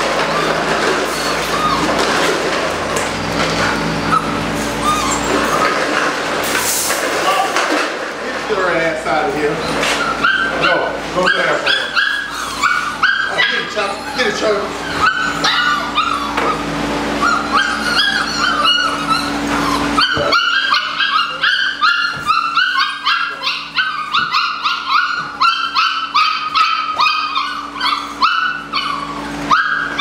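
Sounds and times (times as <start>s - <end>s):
puppies yipping and whining: 0.0s - 30.0s.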